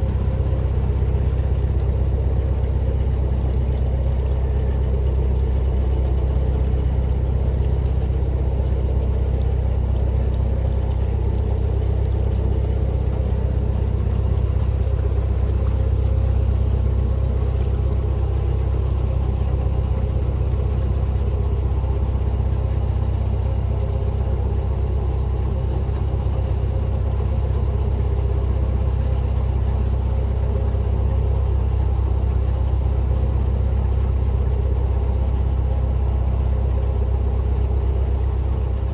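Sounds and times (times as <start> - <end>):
boat diesel engine drone: 0.0 - 38.9.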